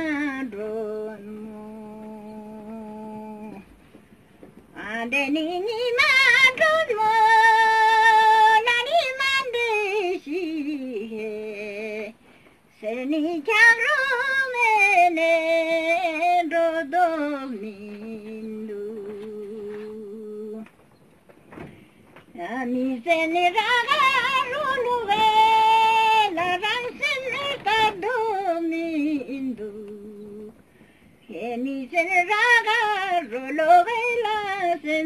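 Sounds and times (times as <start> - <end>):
woman singing unaccompanied: 0.0 - 3.8, 4.7 - 20.8, 22.2 - 35.0.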